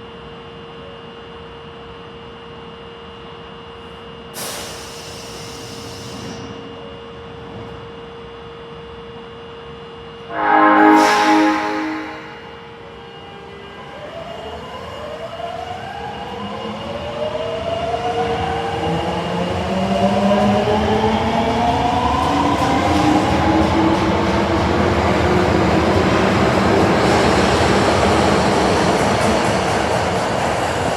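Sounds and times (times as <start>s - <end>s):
subway train motors whining: 0.0s - 30.9s.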